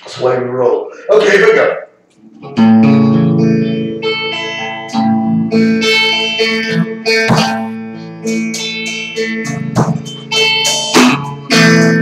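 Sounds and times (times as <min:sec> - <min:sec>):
guitar strumming chords: 0:02.2 - 0:12.0.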